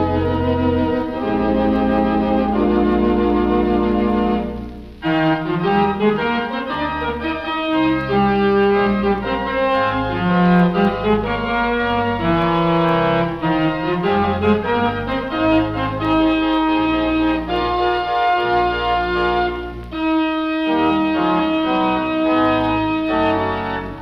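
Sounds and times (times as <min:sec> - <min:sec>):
theatre organ playing chords: 0:00.0 - 0:24.0.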